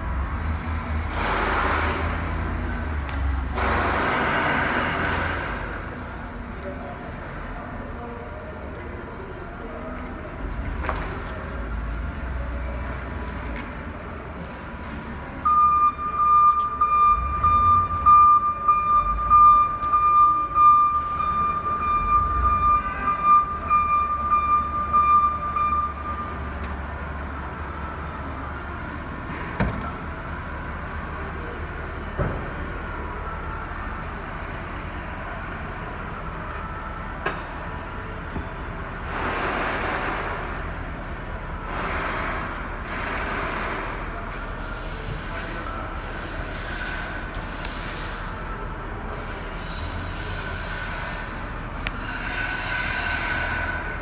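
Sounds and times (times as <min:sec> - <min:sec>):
truck engine rumbling: 0:00.0 - 0:54.0.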